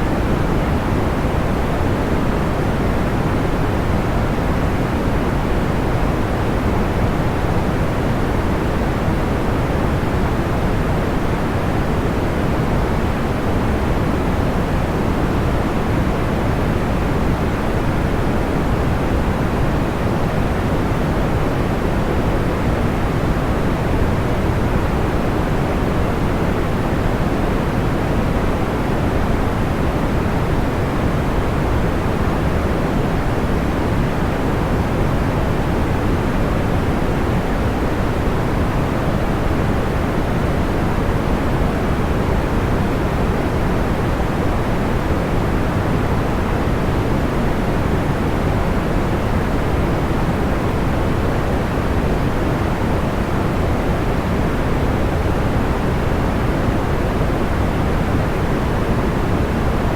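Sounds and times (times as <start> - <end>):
soft low white noise: 0.0 - 59.9.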